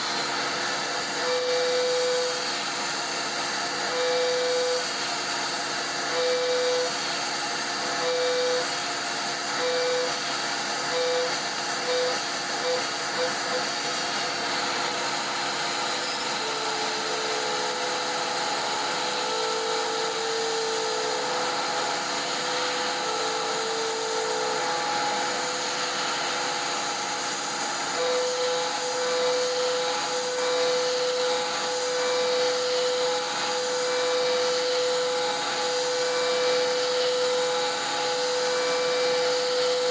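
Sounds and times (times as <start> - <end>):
cnc spindle milling hum: 0.0 - 39.9
machine noise hiss: 0.0 - 39.9.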